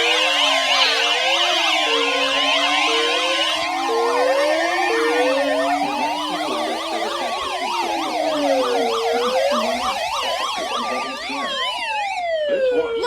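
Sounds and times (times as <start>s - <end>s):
siren fast yelping warbles: 0.0s - 13.0s
siren slow wail: 0.0s - 13.0s.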